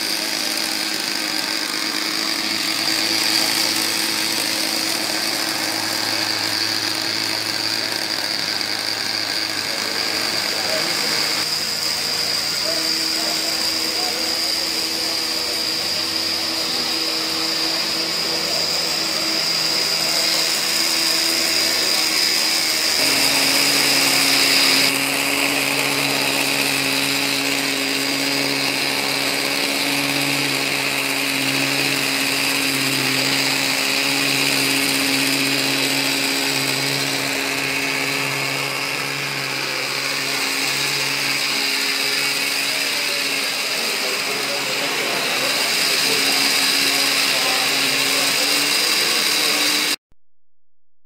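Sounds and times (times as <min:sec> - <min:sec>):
small model engine running: 0:00.0 - 0:50.0.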